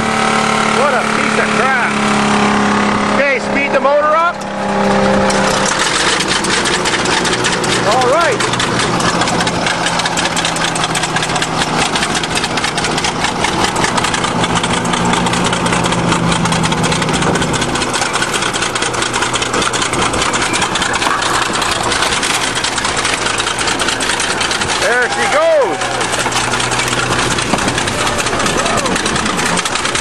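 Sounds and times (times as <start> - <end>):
bulldozer engine clattering: 0.0 - 30.0.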